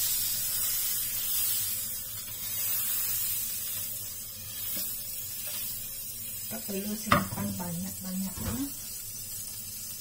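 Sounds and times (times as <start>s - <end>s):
butter sizzling in frying pan: 0.0s - 10.0s.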